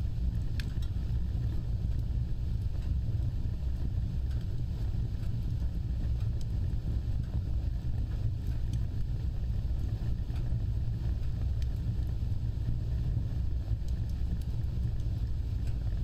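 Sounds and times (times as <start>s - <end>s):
fire crackles: 0.0s - 16.0s
fire flames rumbling: 0.0s - 16.0s.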